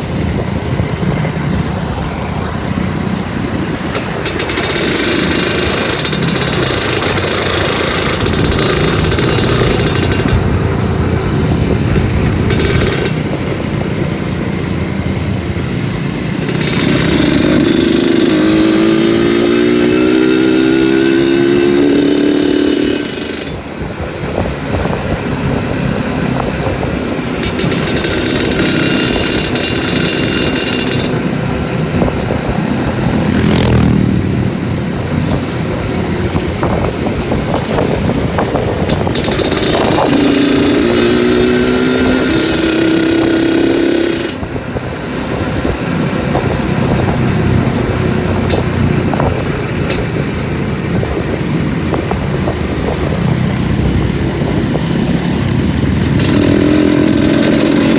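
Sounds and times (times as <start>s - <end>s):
two-stroke motorcycle engine revving: 0.0s - 57.9s.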